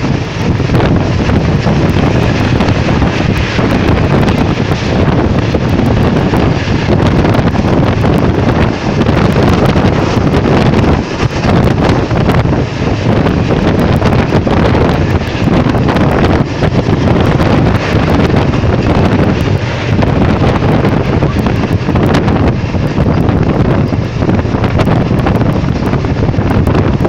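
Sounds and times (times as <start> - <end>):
train running noise: 0.0 - 27.0
wind buffeting microphone: 0.0 - 27.0.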